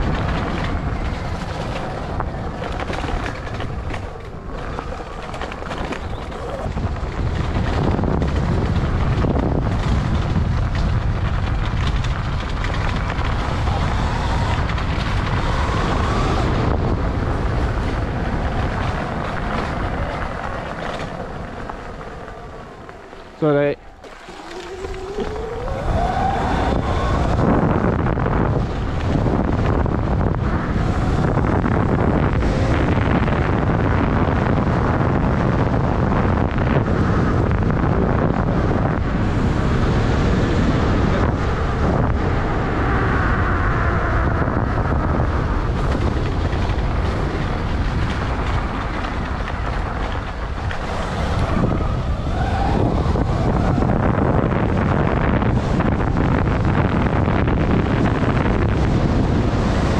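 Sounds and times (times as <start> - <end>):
motorbike engine revving: 0.0 - 59.9
wind buffeting microphone: 0.0 - 59.9.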